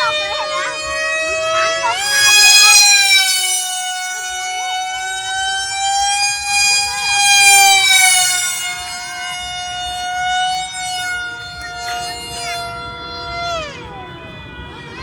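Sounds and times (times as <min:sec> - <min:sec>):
model aircraft motor whine: 0:00.0 - 0:14.8.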